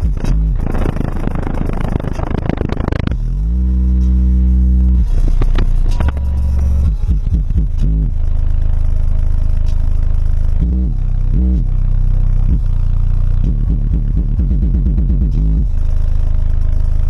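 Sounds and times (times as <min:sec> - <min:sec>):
bass-heavy music through subwoofers: 0:00.0 - 0:17.0.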